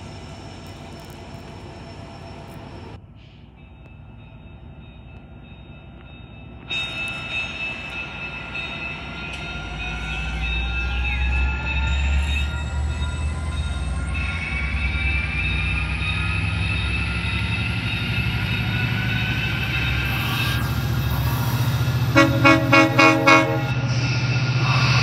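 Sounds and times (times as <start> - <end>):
diesel locomotive engine rumble: 0.0 - 25.0
steady high tones: 3.6 - 25.0.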